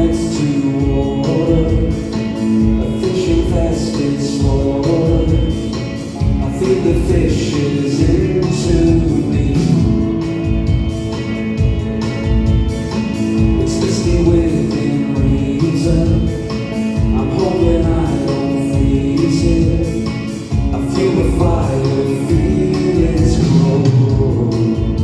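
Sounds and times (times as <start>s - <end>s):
person singing: 0.0s - 11.2s, 13.1s - 25.0s
live band music: 0.0s - 25.0s.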